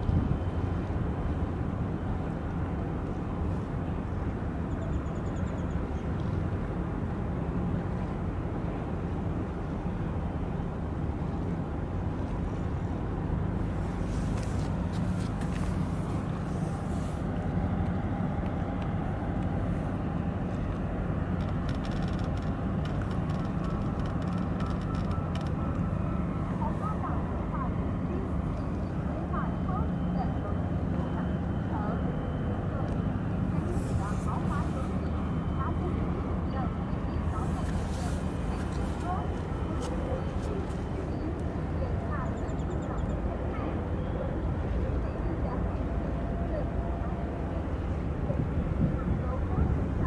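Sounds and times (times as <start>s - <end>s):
boat diesel engine rumble: 0.0s - 50.0s
wind and water: 0.0s - 50.0s.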